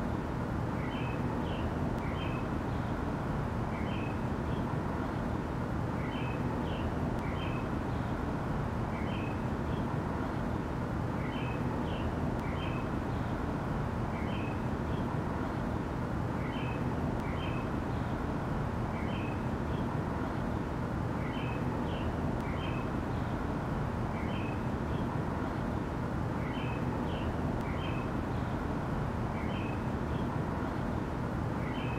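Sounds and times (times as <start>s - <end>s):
low rumbling background noise: 0.0s - 31.9s.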